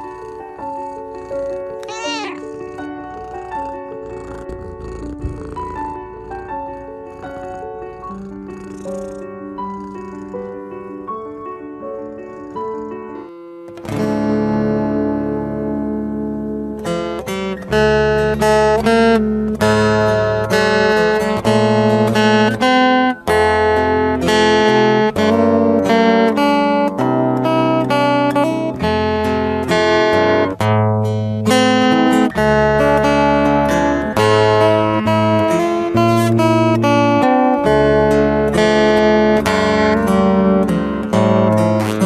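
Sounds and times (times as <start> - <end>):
acoustic guitar strummed and plucked: 0.0 - 9.6, 10.6 - 42.0.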